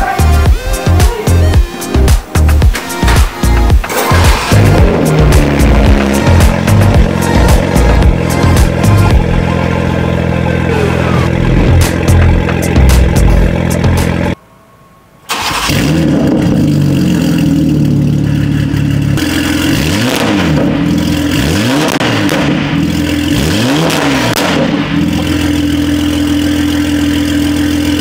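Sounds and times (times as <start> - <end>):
car engine starting and idling: 0.0 - 14.4, 15.3 - 28.0
car engine revving: 1.4 - 14.4, 15.3 - 28.0.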